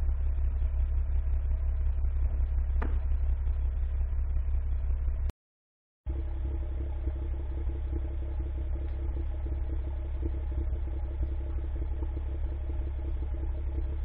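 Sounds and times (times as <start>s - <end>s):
car engine idling: 0.0s - 5.3s, 6.1s - 14.0s.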